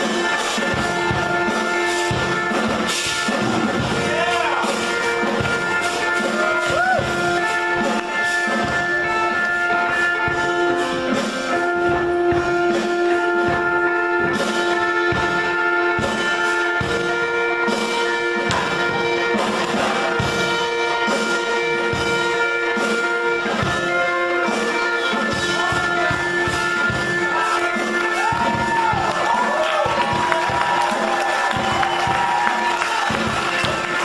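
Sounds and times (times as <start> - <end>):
music with steady drum beat: 0.0 - 34.0.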